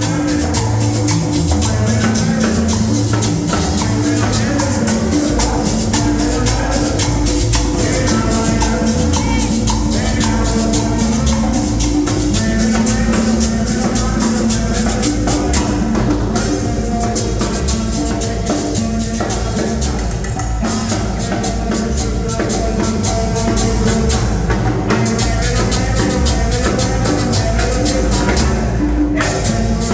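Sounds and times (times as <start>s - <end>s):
dance music: 0.0s - 29.9s.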